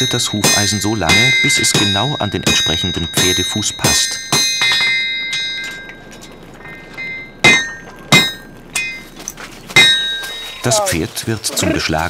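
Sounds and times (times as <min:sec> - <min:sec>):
hammer clanging on anvil: 0:00.0 - 0:10.9.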